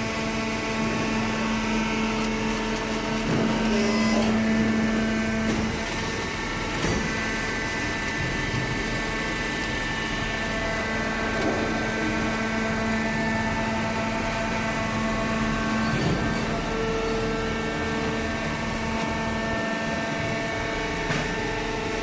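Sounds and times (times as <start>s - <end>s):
baler hydraulic pump humming: 0.0s - 22.0s.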